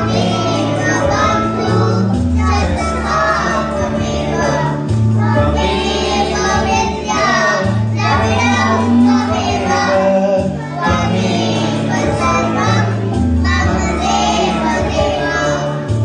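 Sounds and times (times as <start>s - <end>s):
children singing in unison: 0.0s - 15.9s
instrumental accompaniment: 0.0s - 16.0s.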